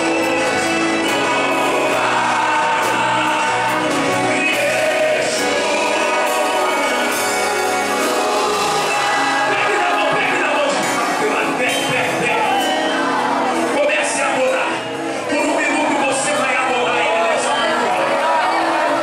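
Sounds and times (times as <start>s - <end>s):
man singing into microphone: 0.0s - 13.0s, 13.7s - 19.0s.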